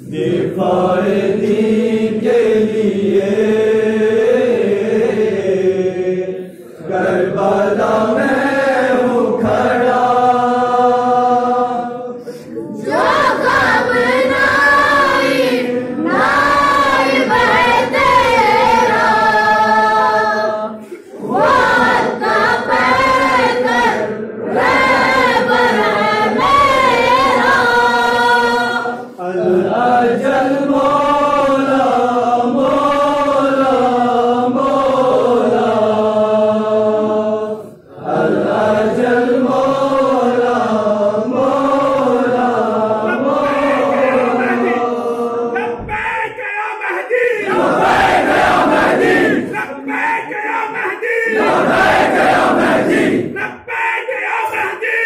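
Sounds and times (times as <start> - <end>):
men chanting together: 0.0 - 55.0.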